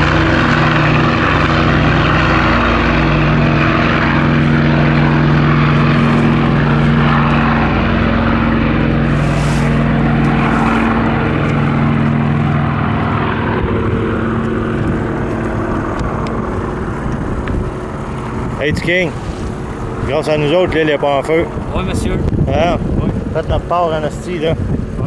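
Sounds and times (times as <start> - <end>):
propeller engines droning: 0.0 - 25.0.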